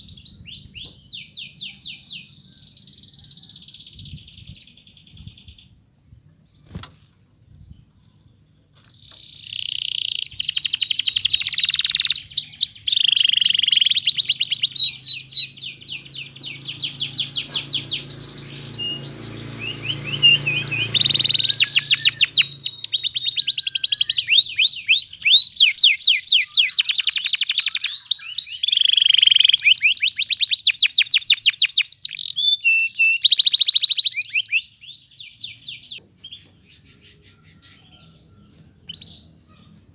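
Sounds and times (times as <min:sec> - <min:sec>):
canary singing trills: 0:06.6 - 0:39.9.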